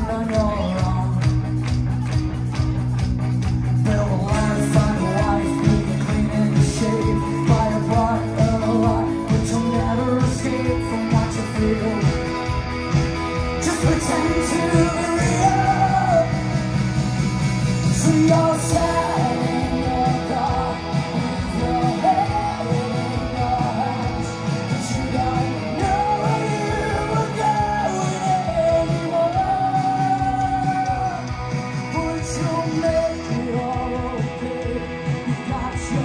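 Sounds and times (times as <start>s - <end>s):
person singing: 0.0s - 2.1s, 3.6s - 17.0s, 17.7s - 36.0s
rock band playing live: 0.0s - 36.0s.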